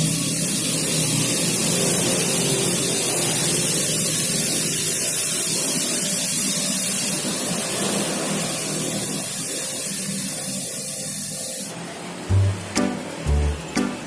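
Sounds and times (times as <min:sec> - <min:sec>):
pressure washer spraying water: 0:00.0 - 0:11.7.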